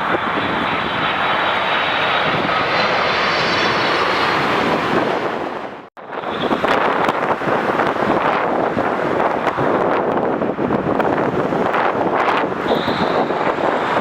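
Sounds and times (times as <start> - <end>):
jet engine noise with fan whine: 0.0 - 14.0.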